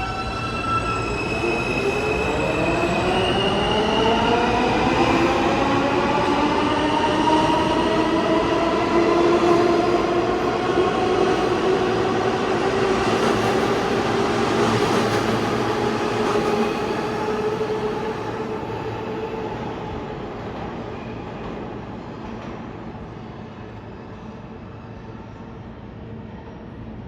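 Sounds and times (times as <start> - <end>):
rumble of train wheels: 0.0 - 27.0.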